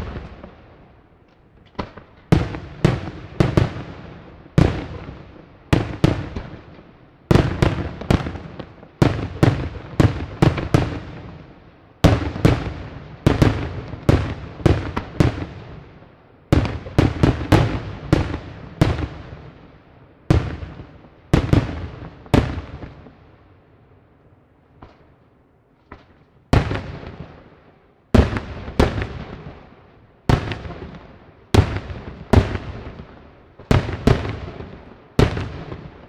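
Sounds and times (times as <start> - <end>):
fireworks bursting with echo: 0.0 - 23.4, 24.7 - 36.0.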